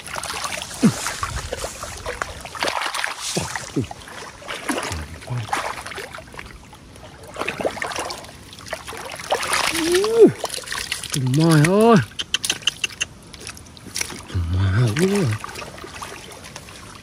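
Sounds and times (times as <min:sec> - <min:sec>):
hands sloshing in muddy water: 0:00.0 - 0:17.0.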